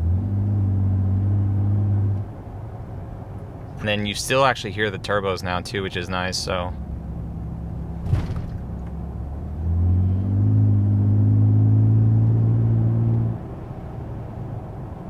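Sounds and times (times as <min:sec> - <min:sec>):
low exhaust hum: 0:00.0 - 0:15.0.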